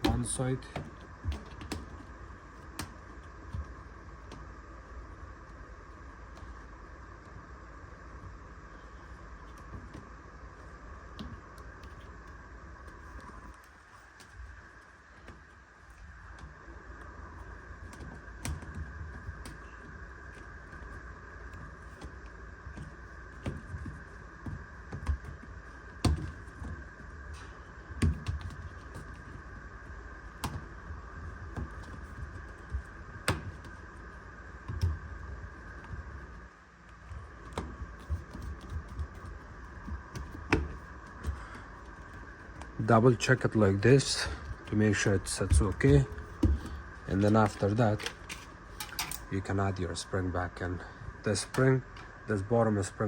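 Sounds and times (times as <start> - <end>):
steady high hum: 0.0 - 53.0.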